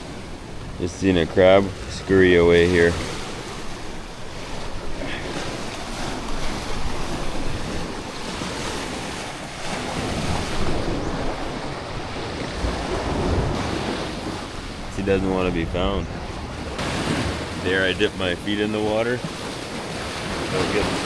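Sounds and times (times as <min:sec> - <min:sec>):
surf washing over rocky shore: 0:00.0 - 0:21.0
wind buffeting microphone: 0:00.0 - 0:21.0.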